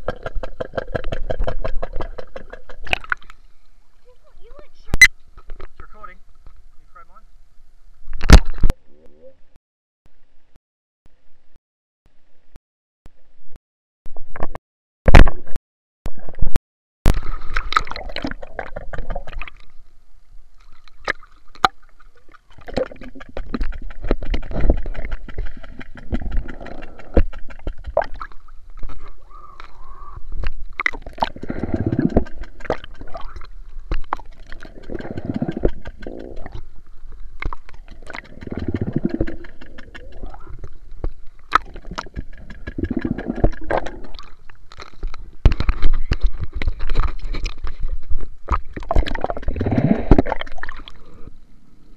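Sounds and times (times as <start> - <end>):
underwater bubbling and sloshing: 0.0 - 9.1, 17.1 - 51.9.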